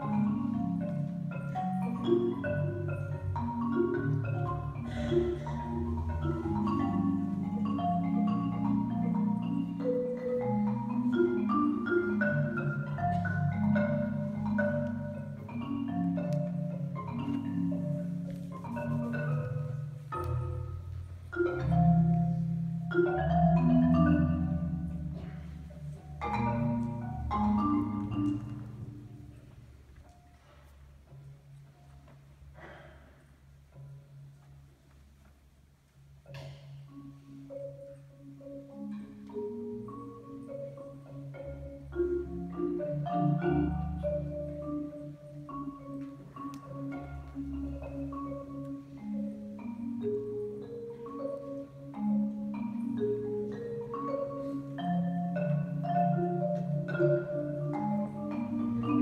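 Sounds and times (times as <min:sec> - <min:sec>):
solo marimba: 0:00.0 - 0:59.0.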